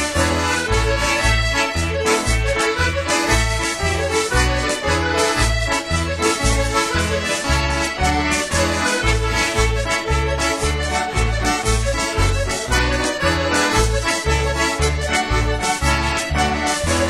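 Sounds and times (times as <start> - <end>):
accordion-led traditional tune: 0.0 - 17.0
steady bass beat: 0.1 - 17.0.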